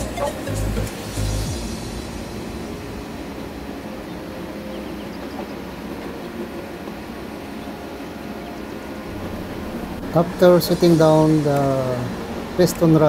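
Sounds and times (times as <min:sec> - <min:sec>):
engine room machinery rumble: 0:00.0 - 0:13.0.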